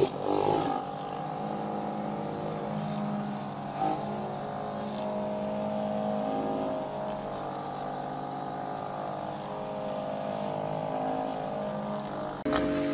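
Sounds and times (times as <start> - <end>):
pressure washer spraying wood: 0.0 - 12.9.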